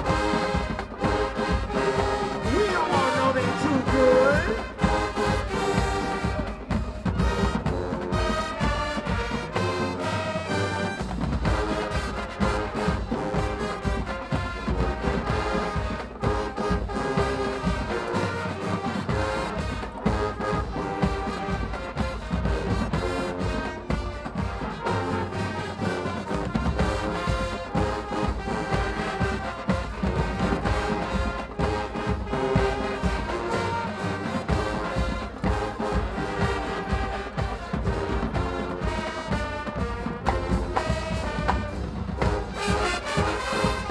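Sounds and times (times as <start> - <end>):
driving drum beat: 0.0 - 43.9
marching band brass: 0.0 - 43.9.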